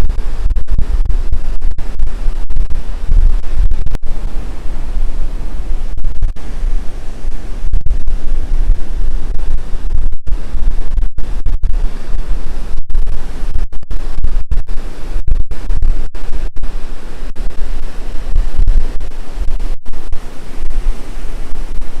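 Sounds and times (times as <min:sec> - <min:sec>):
surf washing: 0:00.0 - 0:22.0
wind buffeting microphone: 0:00.0 - 0:22.0.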